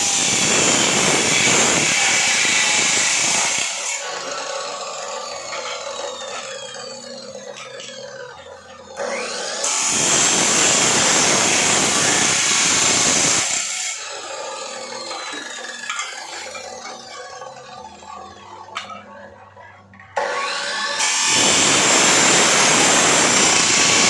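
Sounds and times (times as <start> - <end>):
power tool whining and cutting: 0.0 - 18.6, 20.2 - 24.0.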